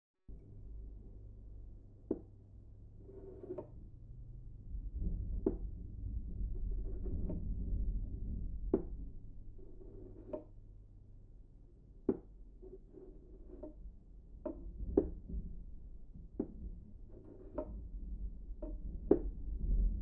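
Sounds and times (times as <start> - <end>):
low steady rumble: 0.3 - 20.0.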